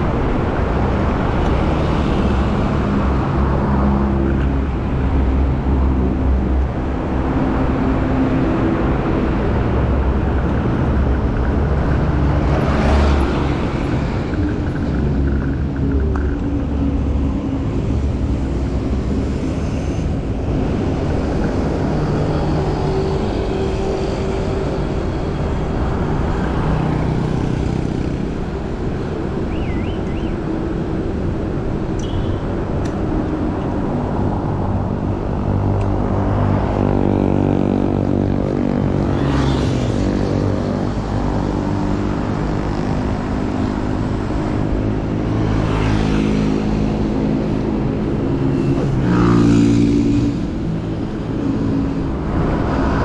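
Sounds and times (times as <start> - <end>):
vehicle engines passing: 0.0 - 53.0.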